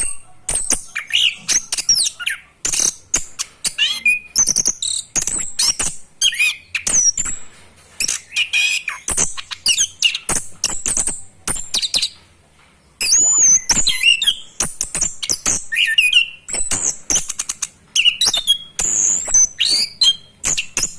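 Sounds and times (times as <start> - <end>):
thrush song with whistles and clicks: 0.0 - 7.4, 8.0 - 12.2, 13.0 - 20.9.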